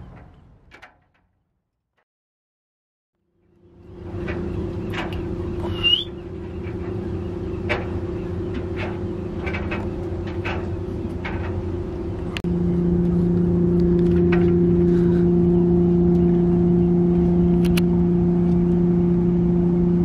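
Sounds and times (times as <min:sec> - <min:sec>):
boat engine running: 0:03.3 - 0:20.0.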